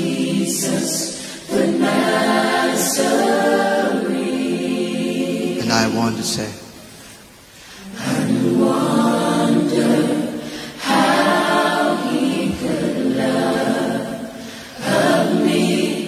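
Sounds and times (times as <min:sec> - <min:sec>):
gospel group singing: 0:00.0 - 0:06.4, 0:07.2 - 0:16.0.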